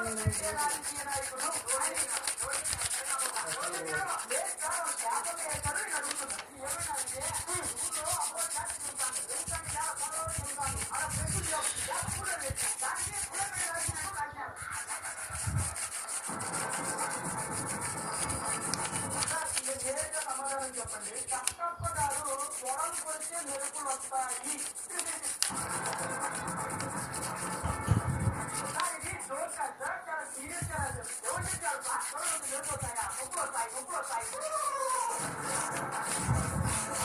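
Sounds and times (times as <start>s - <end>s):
pencil rubbing on paper: 0.0s - 37.0s.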